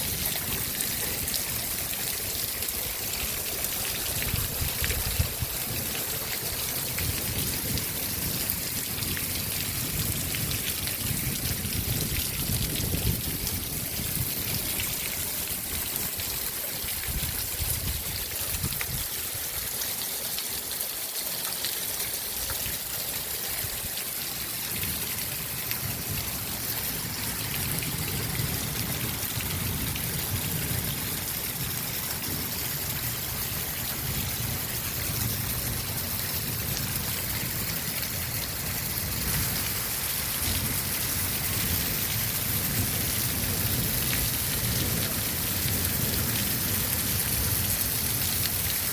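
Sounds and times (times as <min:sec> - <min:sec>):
heavy rain falling: 0:00.0 - 0:48.9
water running and trickling: 0:00.0 - 0:48.9.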